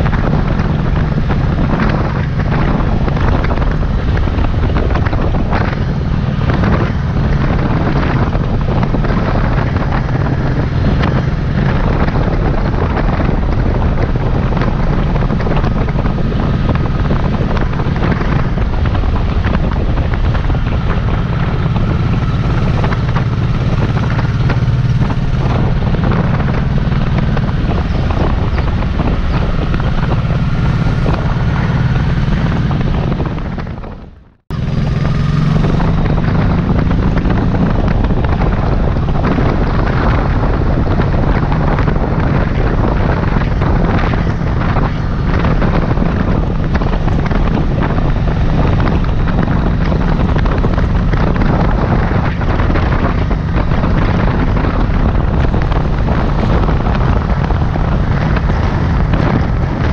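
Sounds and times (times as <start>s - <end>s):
motorcycle engine cruising: 0.0s - 59.9s
wind buffeting microphone: 0.0s - 59.9s.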